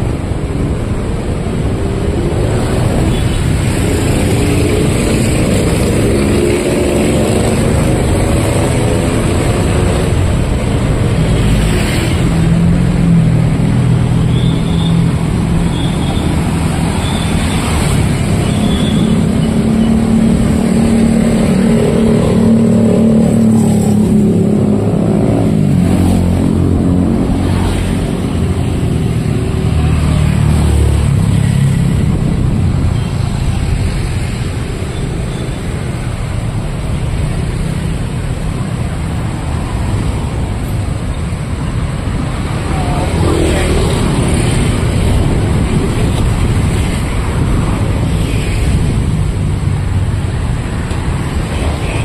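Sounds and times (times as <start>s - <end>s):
cars and motorcycles passing: 0.0s - 52.0s.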